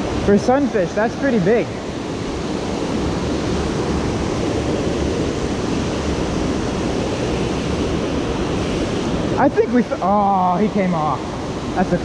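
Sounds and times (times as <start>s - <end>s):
water rushing over a dam: 0.0s - 12.0s.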